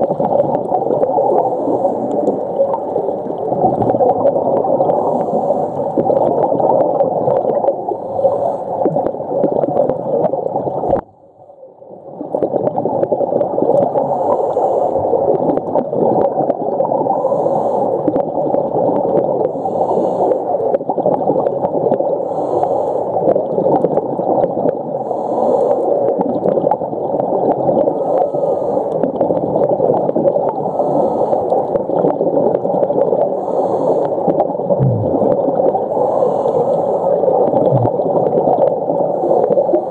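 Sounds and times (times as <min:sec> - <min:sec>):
muffled underwater gurgling: 0:00.0 - 0:39.9.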